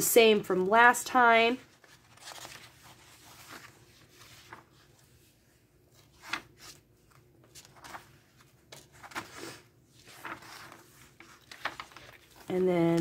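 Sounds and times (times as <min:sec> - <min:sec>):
paper pages turning: 0:01.6 - 0:13.0.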